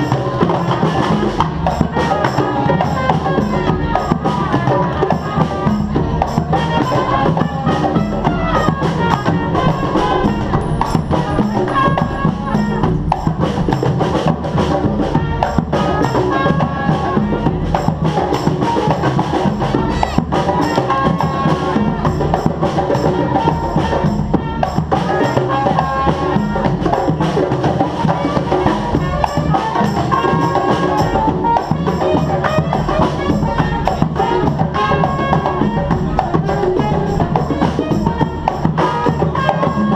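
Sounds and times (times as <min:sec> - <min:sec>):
drums and hand percussion: 0:00.0 - 0:39.9
street band playing: 0:00.0 - 0:39.9.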